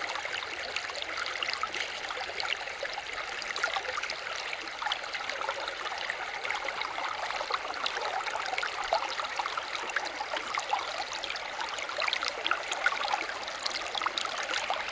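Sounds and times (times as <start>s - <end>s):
stream water babbling: 0.0s - 14.9s.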